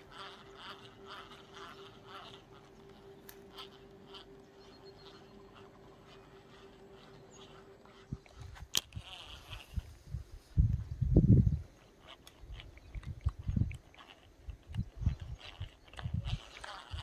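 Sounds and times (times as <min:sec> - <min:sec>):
thin steady hum: 0:00.0 - 0:17.0.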